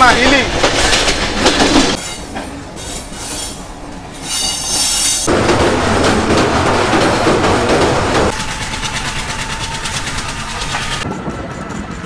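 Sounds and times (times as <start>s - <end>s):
train running on rails: 0.0s - 12.0s.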